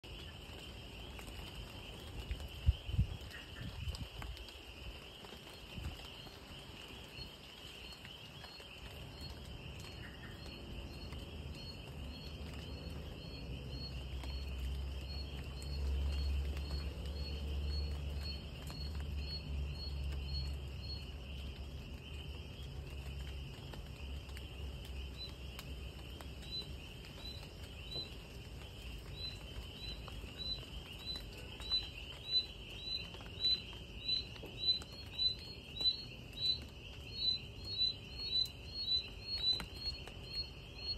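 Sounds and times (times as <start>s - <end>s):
insects trilling and chirping: 0.0s - 40.9s.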